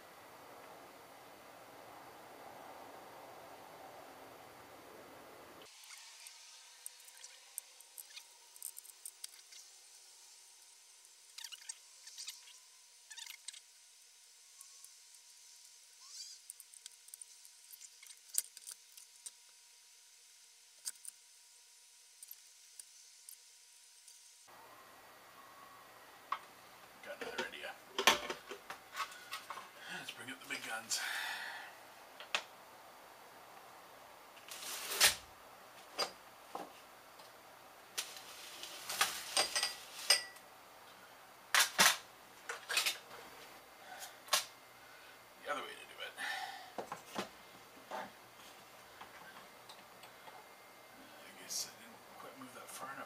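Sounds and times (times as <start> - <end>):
faint steady whine: 0.0 - 53.0.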